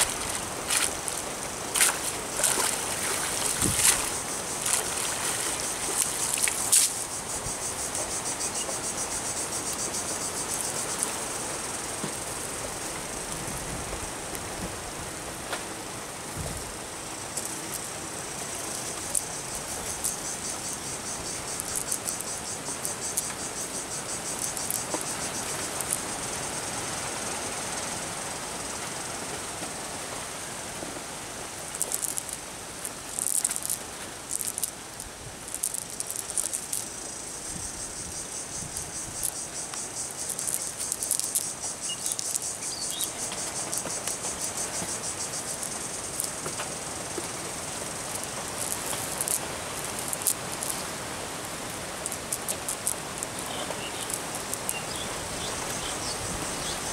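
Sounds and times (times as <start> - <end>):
insects calling in high-pitched pulses: 0.0 - 14.3, 16.1 - 29.2, 31.4 - 56.9
steady outdoor hiss: 0.0 - 56.9.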